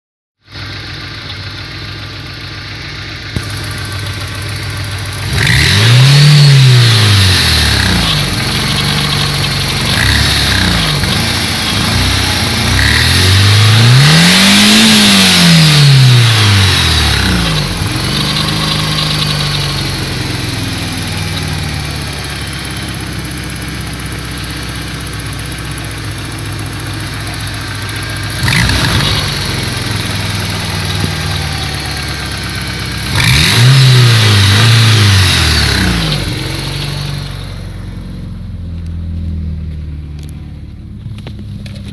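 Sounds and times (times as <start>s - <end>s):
car engine idling and revving: 0.4s - 41.9s.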